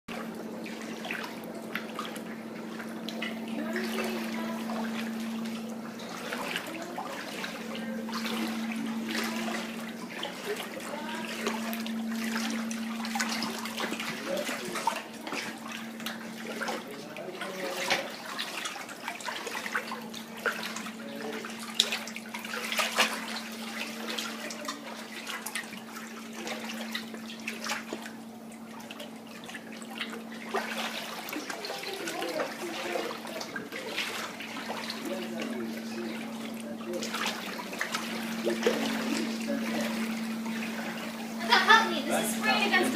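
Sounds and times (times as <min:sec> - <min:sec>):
floodwater splashing and sloshing: 0:00.1 - 0:42.9
steady low hum: 0:00.1 - 0:42.9.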